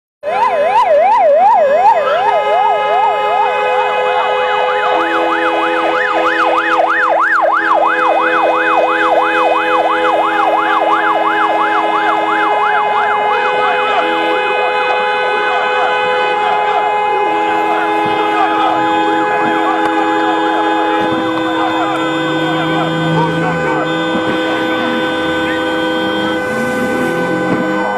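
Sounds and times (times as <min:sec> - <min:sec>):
fast wailing siren: 0:00.2 - 0:27.9
slower high-pitched siren: 0:00.2 - 0:27.9
steady held siren tones: 0:00.2 - 0:27.9.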